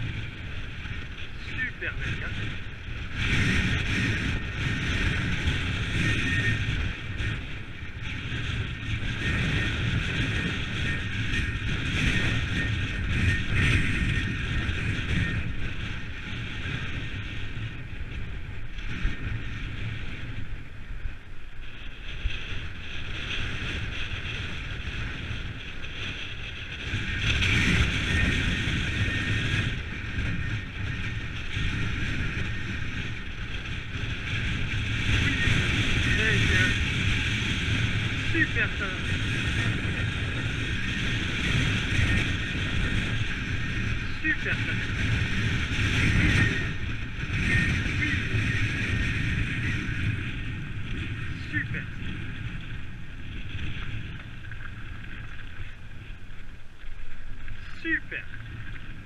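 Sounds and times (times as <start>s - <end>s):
bike tyres rolling on dirt: 0.0s - 59.0s
wind buffeting microphone: 0.0s - 59.0s.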